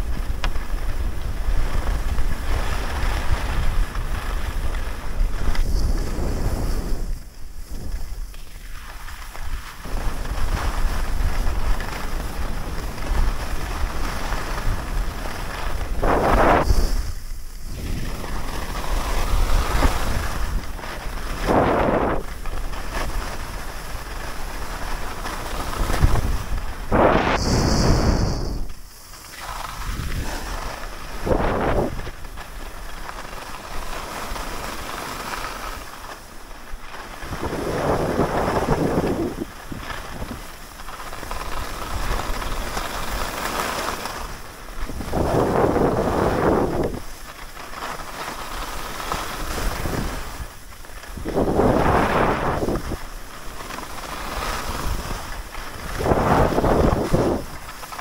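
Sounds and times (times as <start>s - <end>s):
wind rushing over microphone: 0.0s - 8.7s, 9.4s - 33.0s, 33.6s - 47.4s, 48.0s - 58.0s
skis scraping over snow: 0.0s - 58.0s.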